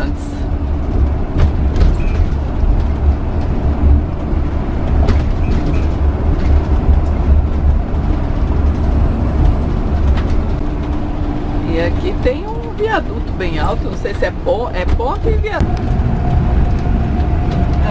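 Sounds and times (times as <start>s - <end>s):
engine and road rumble: 0.0s - 17.9s.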